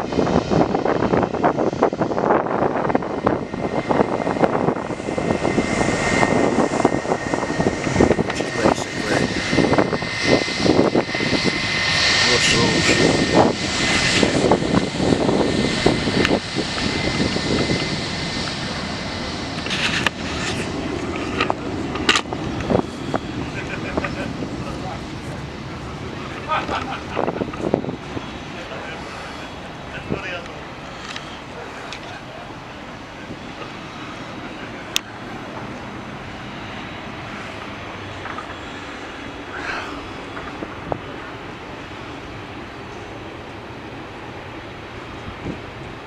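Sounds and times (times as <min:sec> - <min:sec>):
jet engine high whine: 0:00.0 - 0:46.0
jet engine rushing: 0:00.0 - 0:46.0.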